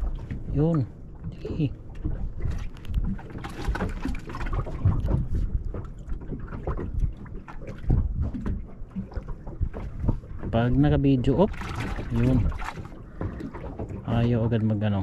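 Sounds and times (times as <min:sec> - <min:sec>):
water slapping against boat hull: 0:00.0 - 0:15.0
wind on microphone: 0:00.0 - 0:15.0.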